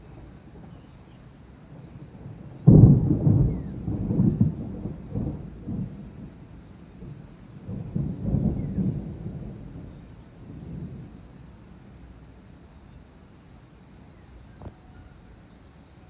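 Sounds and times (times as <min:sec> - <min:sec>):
thunder rumbling: 0:00.0 - 0:13.4.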